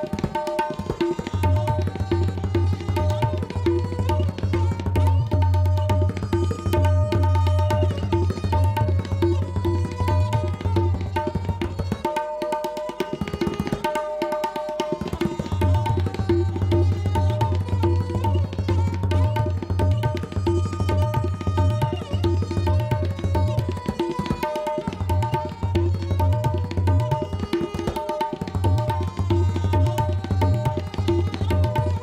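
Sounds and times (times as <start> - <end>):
tabla drumming: 0.0 - 32.0.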